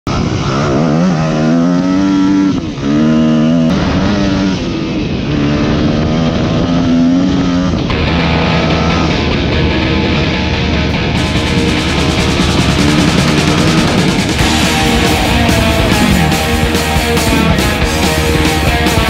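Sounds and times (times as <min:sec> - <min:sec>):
dirt bike engine revving: 0:00.1 - 0:19.0.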